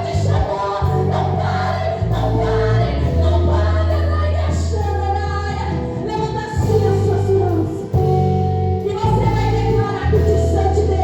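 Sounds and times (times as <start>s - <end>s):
held bass notes: 0.0s - 11.0s
woman singing: 0.0s - 11.0s.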